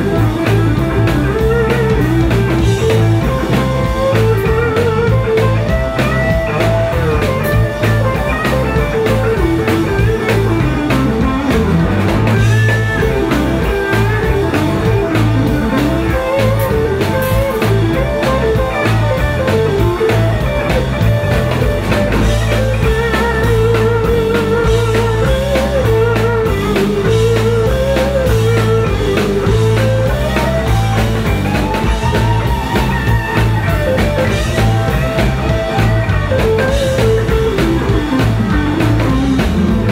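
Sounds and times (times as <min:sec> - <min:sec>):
drum kit: 0:00.0 - 0:39.9
electric bass: 0:00.0 - 0:39.9
lead electric guitar: 0:00.0 - 0:39.9.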